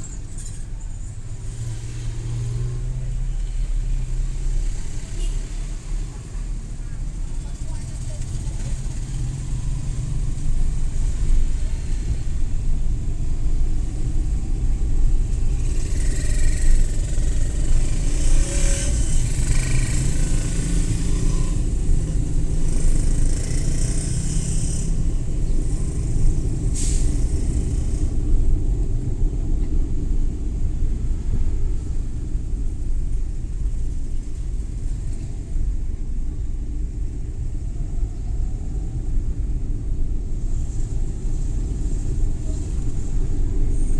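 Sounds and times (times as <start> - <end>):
van engine and road noise: 0.0 - 43.9.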